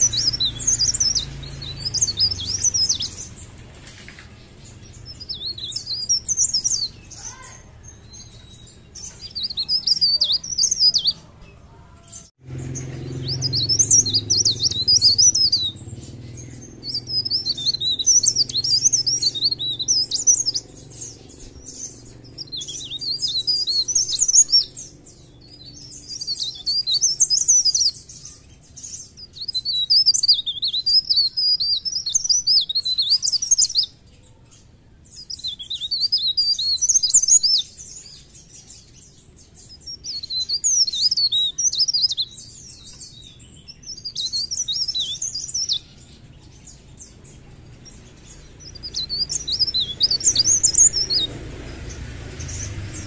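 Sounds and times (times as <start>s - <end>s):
warbler twittering song: 0.0s - 53.0s.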